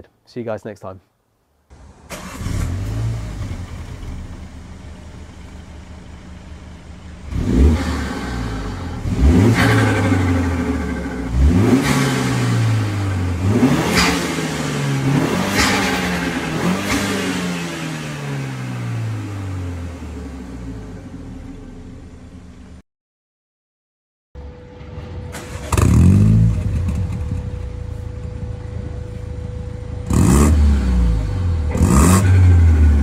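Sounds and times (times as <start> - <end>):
car engine idling and revving: 1.7 - 22.8, 25.3 - 33.0.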